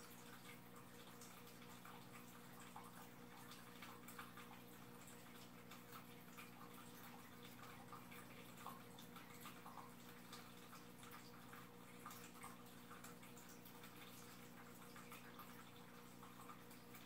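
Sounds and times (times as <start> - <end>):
aquarium filter hum: 0.0 - 17.0
water dripping and trickling: 0.0 - 17.0.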